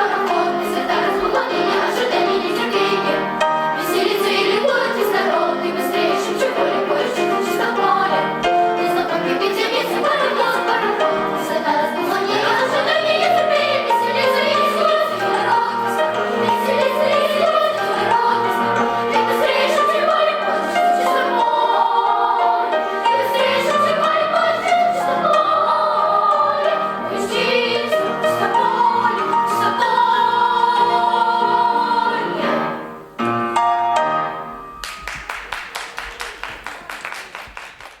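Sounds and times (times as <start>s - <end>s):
children's choir singing: 0.0s - 33.4s.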